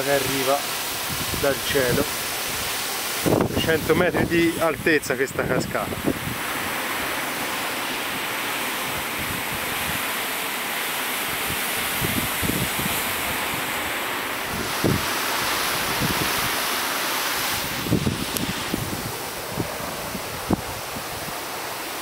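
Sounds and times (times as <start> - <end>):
waterfall spray and heavy rain: 0.0 - 22.0.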